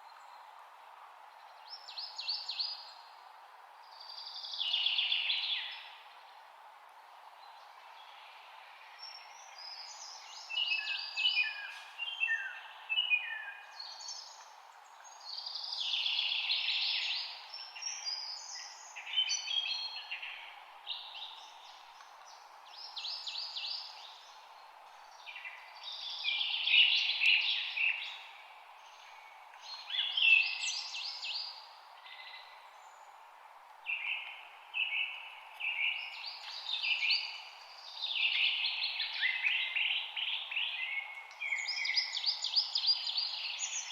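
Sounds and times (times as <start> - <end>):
low background hiss: 0.0 - 43.9
songbirds chirping: 0.0 - 43.9.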